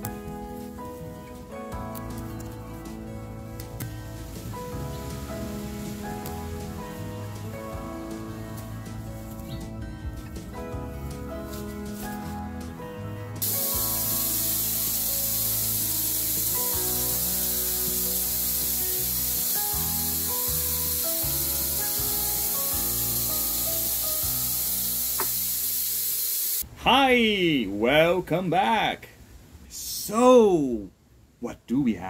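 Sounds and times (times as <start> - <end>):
background music: 0.0 - 26.2.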